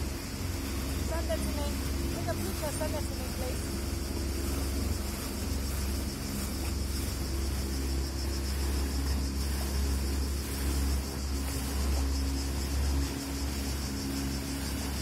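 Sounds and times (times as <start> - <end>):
boat engines humming: 0.0 - 15.0
water rushing past hulls: 0.0 - 15.0.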